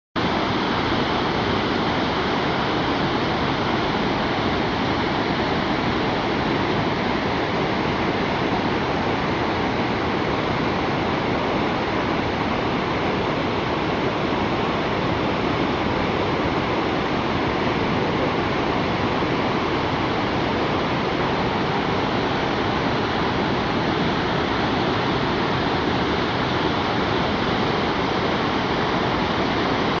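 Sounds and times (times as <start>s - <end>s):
waterfall thundering: 0.2s - 30.0s.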